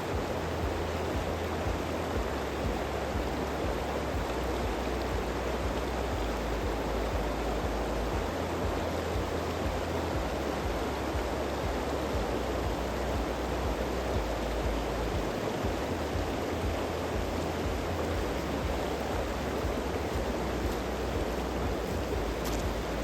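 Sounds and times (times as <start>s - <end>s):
low rumble: 0.0s - 23.0s
stream water rushing: 0.0s - 23.0s.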